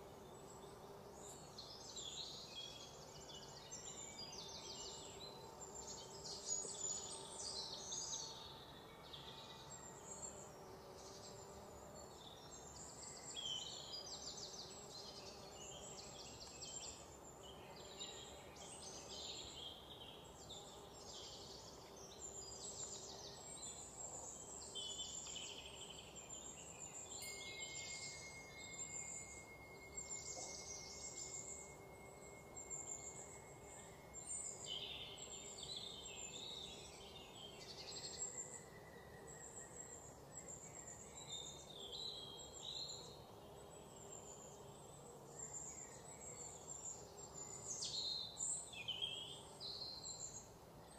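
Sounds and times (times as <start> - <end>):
low steady hiss: 0.0 - 50.9.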